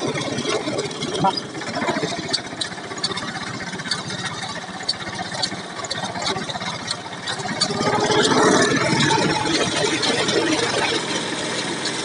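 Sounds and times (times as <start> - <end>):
cultivator pulled through soil: 0.0 - 12.0
tractor diesel engine running: 0.0 - 12.0.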